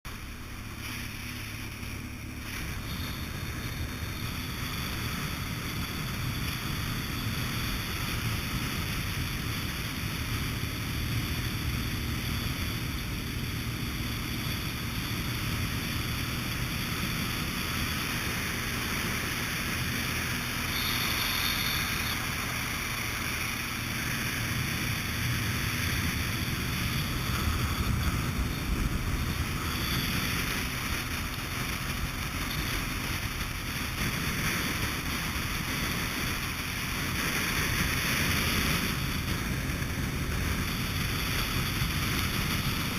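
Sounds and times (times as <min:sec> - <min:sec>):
engine rumble: 0:00.0 - 0:42.9
rushing noise: 0:00.1 - 0:42.9.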